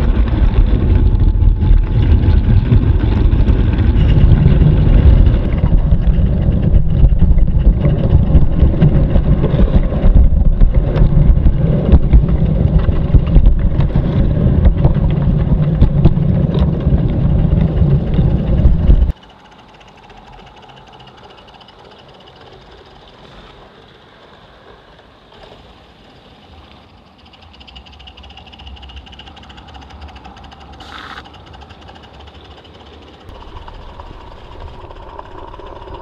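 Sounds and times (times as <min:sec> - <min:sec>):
model train rumbling and rattling: 0:00.0 - 0:36.0.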